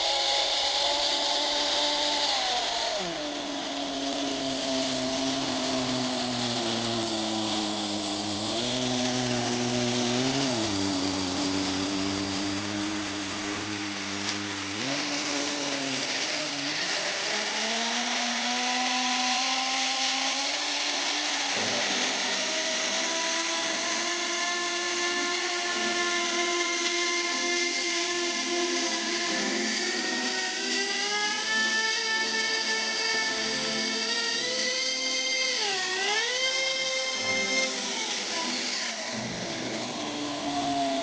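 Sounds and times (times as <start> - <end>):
model engine revving: 0.0 - 41.0.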